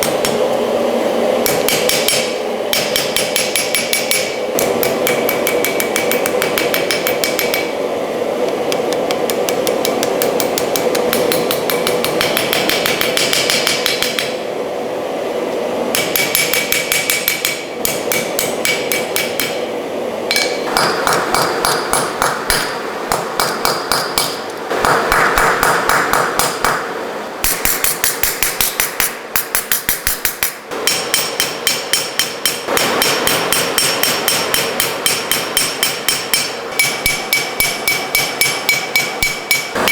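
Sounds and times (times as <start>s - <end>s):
hammer ringing on hot steel: 1.4s - 7.8s, 8.7s - 14.4s, 15.9s - 19.7s, 20.3s - 26.8s, 27.4s - 39.9s.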